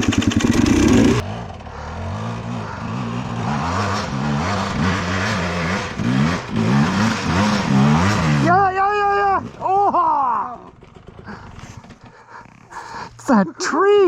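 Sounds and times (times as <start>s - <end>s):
dirt bike engine revving: 0.0s - 12.7s.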